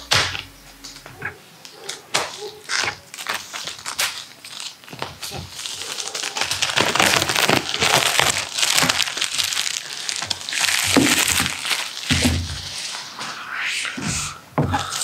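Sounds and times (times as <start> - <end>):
plastic shrink-wrap crinkling: 0.0 - 13.2.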